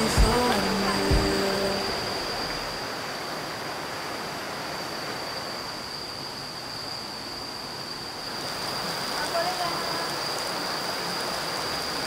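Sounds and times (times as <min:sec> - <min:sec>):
stream water rushing: 0:00.0 - 0:06.8, 0:07.6 - 0:12.0
high-pitched insect trill: 0:00.0 - 0:12.0.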